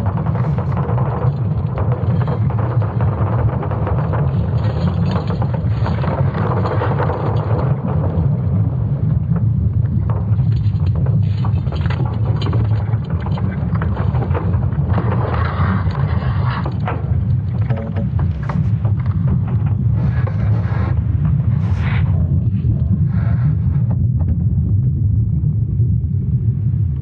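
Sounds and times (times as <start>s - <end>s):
crackling rushing noise: 0.0s - 27.0s
deep rumble: 0.0s - 27.0s.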